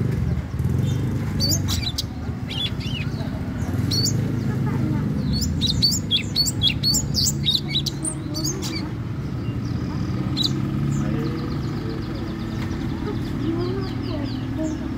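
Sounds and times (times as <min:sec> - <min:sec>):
bird singing: 0:00.1 - 0:14.9.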